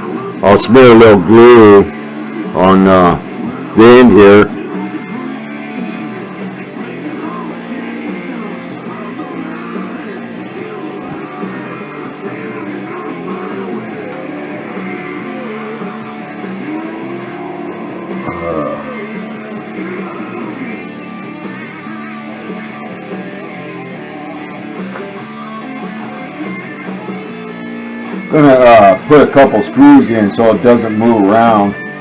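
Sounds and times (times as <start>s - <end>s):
rock music with guitar and singing: 0.0s - 32.0s.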